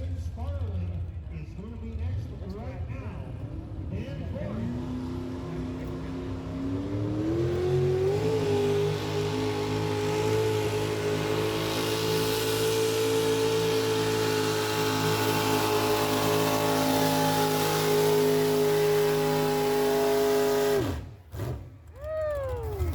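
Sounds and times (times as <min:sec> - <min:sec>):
vehicle engine revving: 0:02.2 - 0:22.9.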